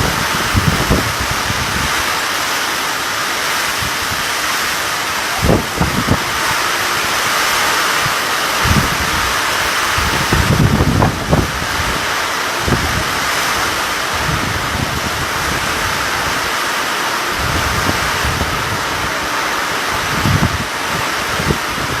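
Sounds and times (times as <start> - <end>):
heavy rain hissing: 0.0 - 22.0
wind gusts buffeting microphone: 0.0 - 22.0.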